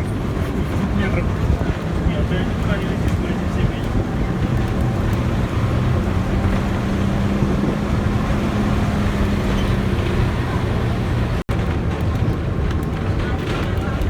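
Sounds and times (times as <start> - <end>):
road and wind noise: 0.0 - 14.0
vehicle engine humming: 0.0 - 14.0.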